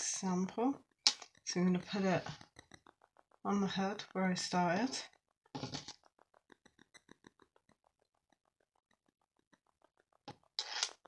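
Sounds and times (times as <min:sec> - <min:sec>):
faint rapid pulsing: 0:00.2 - 0:11.0.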